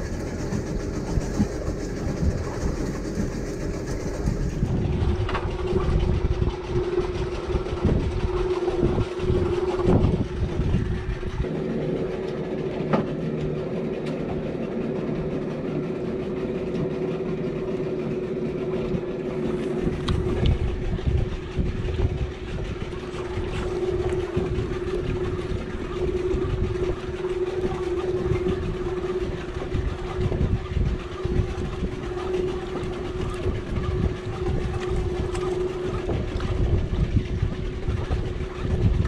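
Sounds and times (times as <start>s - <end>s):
boat engine idling: 0.0s - 39.0s
wind and water rumble: 0.0s - 39.0s.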